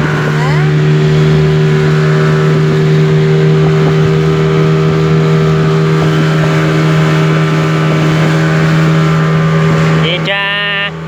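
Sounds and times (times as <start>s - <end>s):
speedboat engine running: 0.0s - 11.0s.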